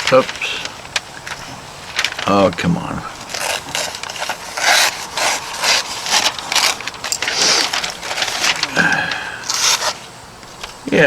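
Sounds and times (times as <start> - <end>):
knife slicing paper: 0.1 - 10.7.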